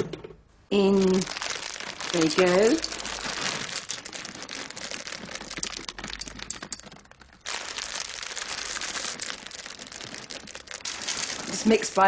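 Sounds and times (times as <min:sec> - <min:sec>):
plastic packet crinkling: 0:00.8 - 0:12.0
chocolate chips rattling into bowl: 0:00.9 - 0:12.0.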